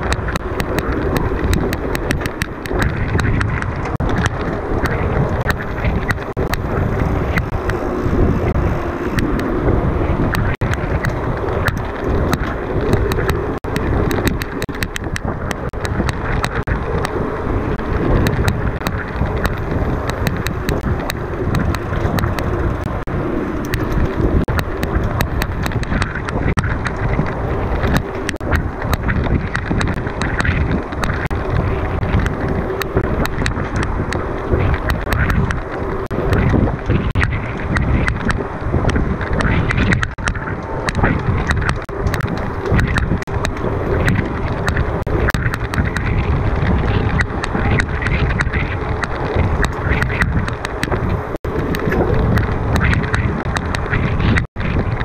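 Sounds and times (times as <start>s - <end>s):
bike rattling clicks: 0.0s - 55.0s
bike tyre noise: 0.0s - 55.0s
wind on microphone: 0.0s - 55.0s.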